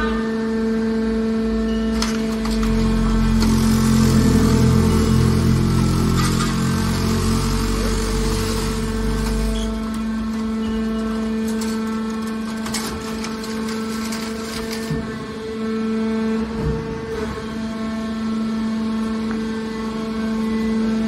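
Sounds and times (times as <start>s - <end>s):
baler machine hum: 0.0s - 21.0s.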